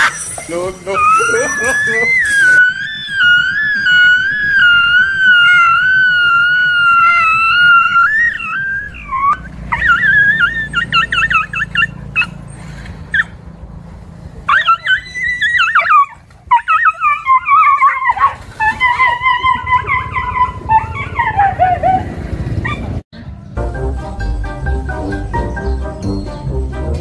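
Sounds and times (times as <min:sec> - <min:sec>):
dogs yelping and whining: 0:00.0 - 0:13.4, 0:14.4 - 0:23.0.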